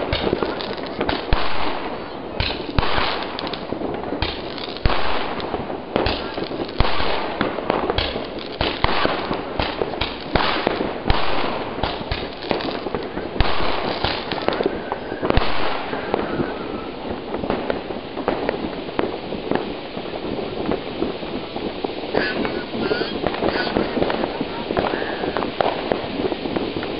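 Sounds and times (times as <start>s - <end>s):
firecrackers banging and crackling: 0.0s - 26.9s
firework fountain hissing: 0.0s - 26.9s.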